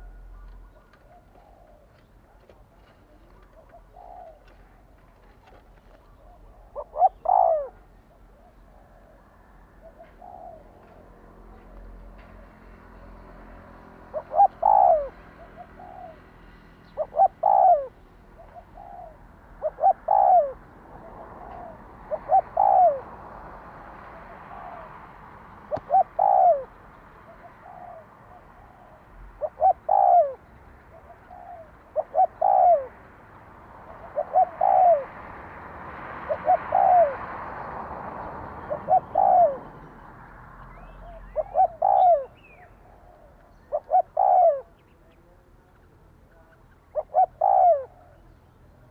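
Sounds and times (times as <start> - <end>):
dove cooing: 0.0 - 35.4, 36.1 - 37.4, 38.4 - 40.1, 40.7 - 45.5, 46.2 - 48.9.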